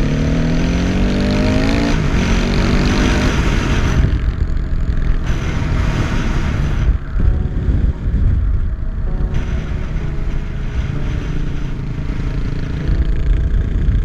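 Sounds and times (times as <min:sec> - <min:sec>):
dirt bike engine revving: 0:00.0 - 0:07.8, 0:09.2 - 0:14.0
wind buffeting microphone: 0:00.0 - 0:14.0.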